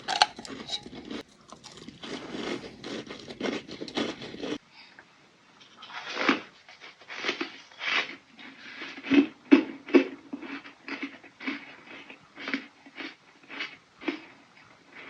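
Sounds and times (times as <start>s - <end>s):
ice being chewed: 0.0s - 4.6s, 5.6s - 15.0s.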